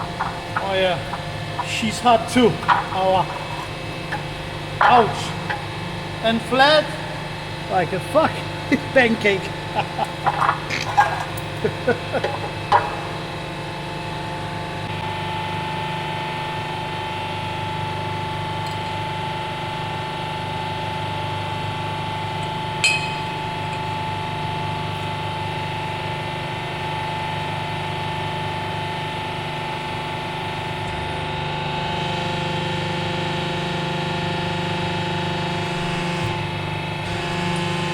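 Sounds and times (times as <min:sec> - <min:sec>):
motor and pump humming: 0:00.0 - 0:37.9.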